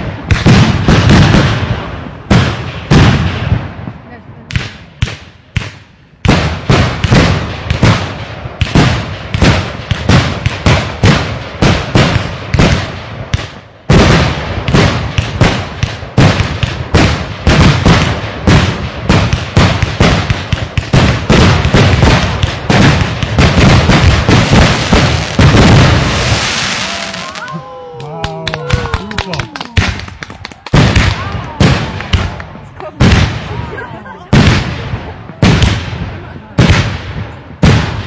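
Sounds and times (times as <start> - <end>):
fireworks bangs: 0.0 - 27.8, 28.4 - 38.0.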